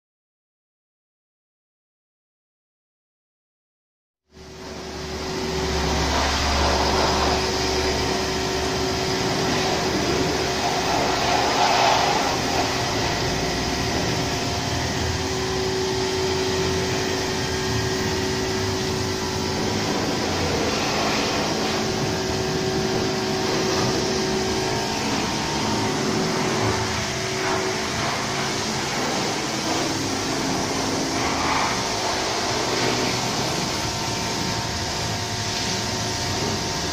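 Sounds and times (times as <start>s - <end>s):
electric water pump humming: 4.3s - 36.9s.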